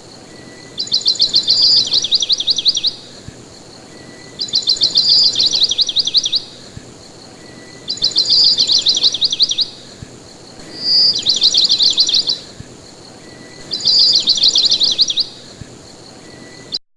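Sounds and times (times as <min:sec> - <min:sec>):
songbird trilling: 0:00.2 - 0:16.8.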